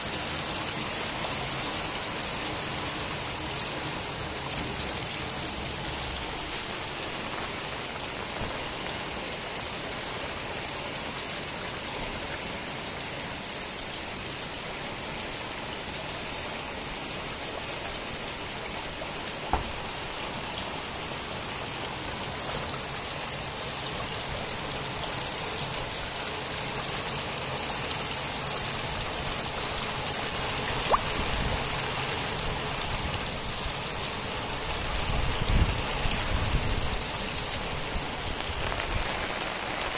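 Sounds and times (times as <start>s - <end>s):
heavy rain on concrete roof: 0.0s - 39.9s.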